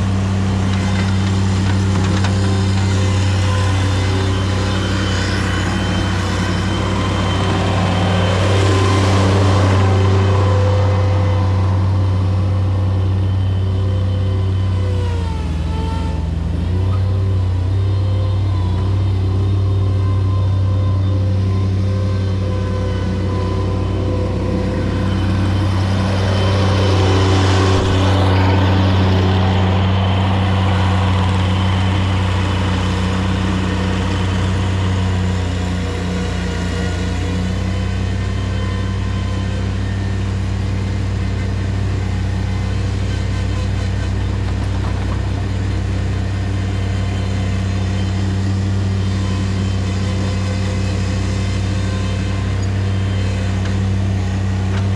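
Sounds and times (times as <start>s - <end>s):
heavy machine engine running: 0.0s - 54.9s.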